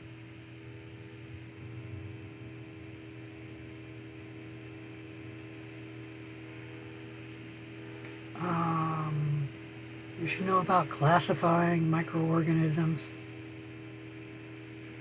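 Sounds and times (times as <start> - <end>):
electrical hum with held tones: 0.0 - 15.0.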